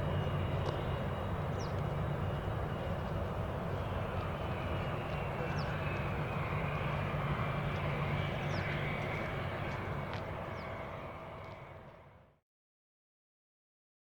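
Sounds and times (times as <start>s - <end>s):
jet engines rumbling and whining: 0.0s - 12.4s.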